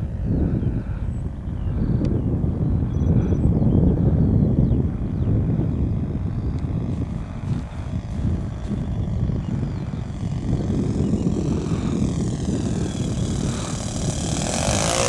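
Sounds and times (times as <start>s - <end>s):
model airplane engine buzz: 0.0s - 15.0s
wind rumble on microphone: 0.0s - 15.0s.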